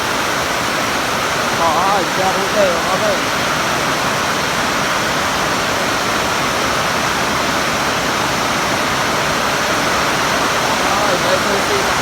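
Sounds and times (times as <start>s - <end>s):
loud steady rushing noise: 1.4s - 12.0s.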